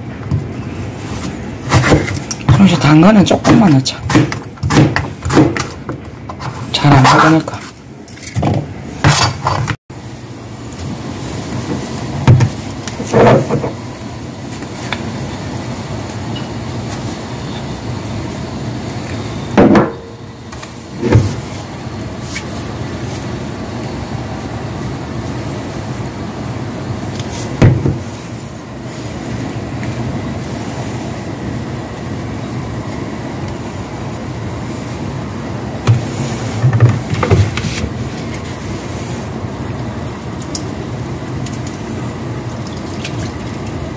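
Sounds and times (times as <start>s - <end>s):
low rumbling kitchen noise: 0.0s - 43.9s.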